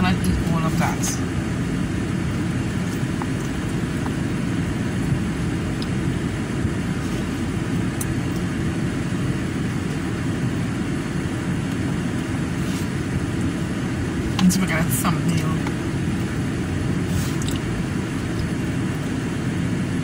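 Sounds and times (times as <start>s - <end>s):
car engine low rumble: 0.0s - 20.0s.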